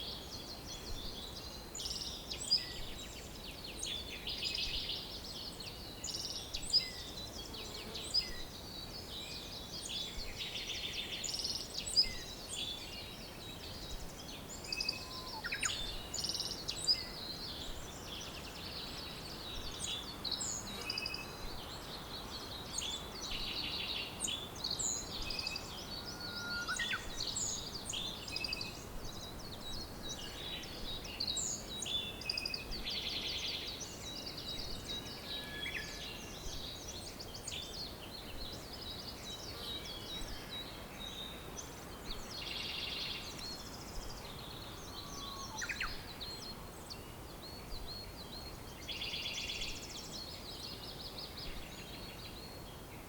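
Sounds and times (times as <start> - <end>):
songbirds chirping and trilling: 0.0 - 53.0
steady background hiss: 0.0 - 53.0.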